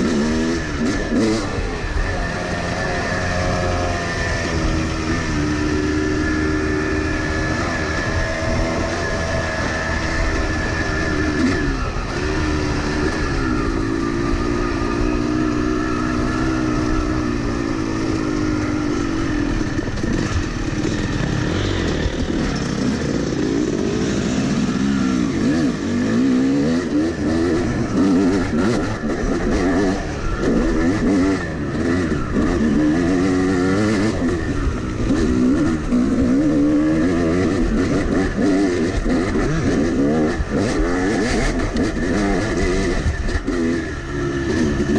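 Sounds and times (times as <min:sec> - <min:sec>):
two-stroke dirt bike engine revving: 0:00.0 - 0:44.9.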